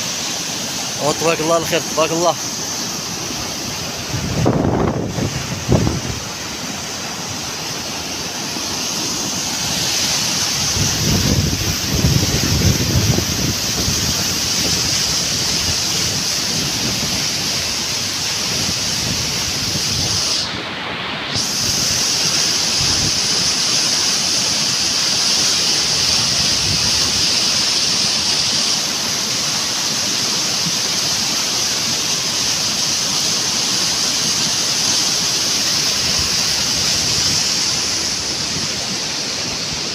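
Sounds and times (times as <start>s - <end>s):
floodwater rushing down gully: 0.0s - 39.9s.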